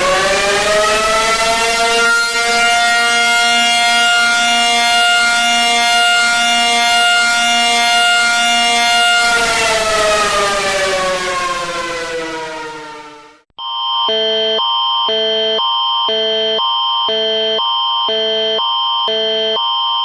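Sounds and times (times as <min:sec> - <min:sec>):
siren winding down: 0:00.0 - 0:20.0.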